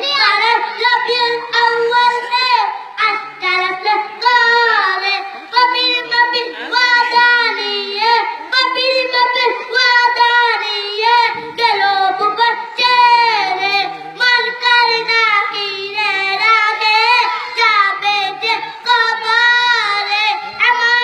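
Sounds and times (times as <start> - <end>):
boy singing into a microphone: 0.0 - 21.0.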